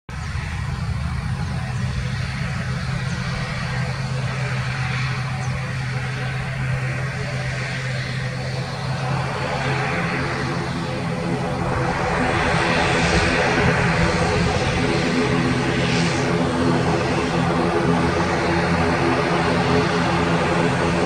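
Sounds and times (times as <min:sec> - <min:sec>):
propeller drone: 0:00.1 - 0:21.0
rushing engine roar: 0:00.1 - 0:21.0.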